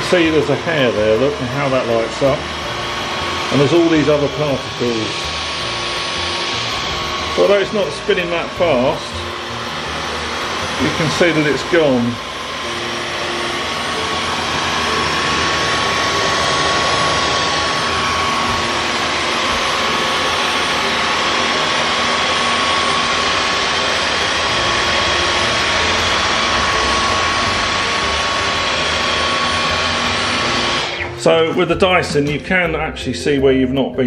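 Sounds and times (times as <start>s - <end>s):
stick vacuum running: 0.0s - 33.9s.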